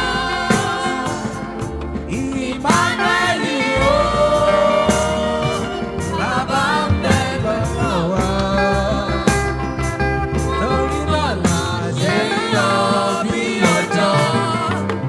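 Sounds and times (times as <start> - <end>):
bass and percussion beat: 0.0 - 15.0
keyboard: 0.0 - 15.0
person singing: 0.0 - 15.0.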